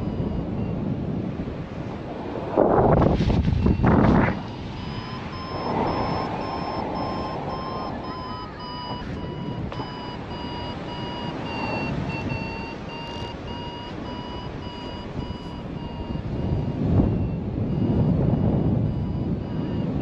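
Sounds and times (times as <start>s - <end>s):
variometer beeping: 0.0s - 1.0s, 3.4s - 20.0s
wind noise on microphone: 0.0s - 20.0s.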